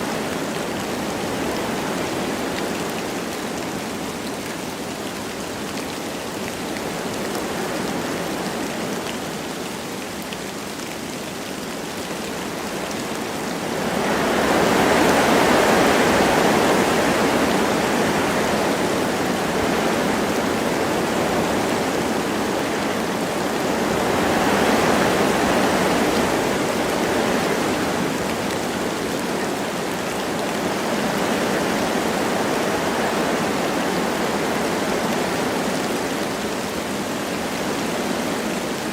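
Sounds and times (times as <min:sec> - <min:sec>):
light rain falling: 0:00.0 - 0:38.9
wind rushing through trees: 0:00.0 - 0:38.9.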